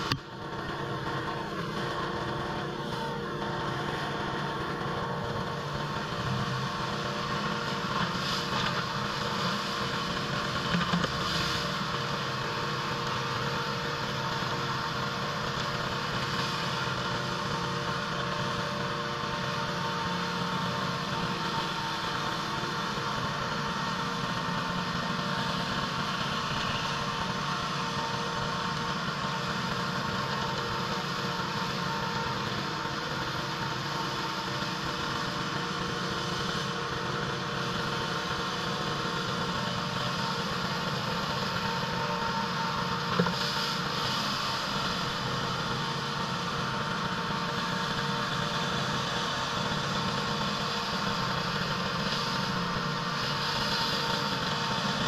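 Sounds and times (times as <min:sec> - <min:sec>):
pressure washer running: 0:00.0 - 0:55.0.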